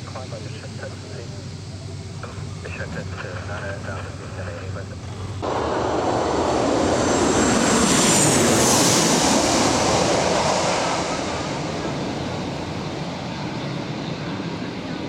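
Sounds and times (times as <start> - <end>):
airliner passing overhead: 0.0 - 15.0
jet engine whine: 0.0 - 15.0.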